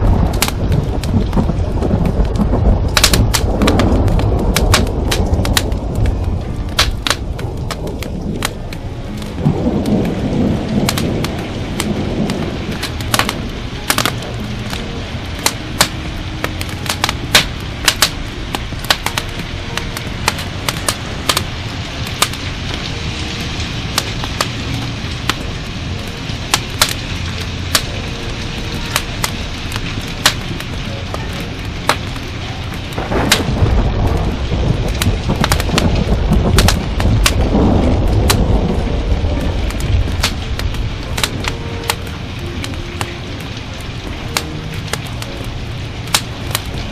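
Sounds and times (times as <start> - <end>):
steady low rumble: 0.0 - 46.9
steady rain: 0.0 - 46.9
thunder rolling: 0.0 - 46.9
wood fire crackling: 0.0 - 46.9.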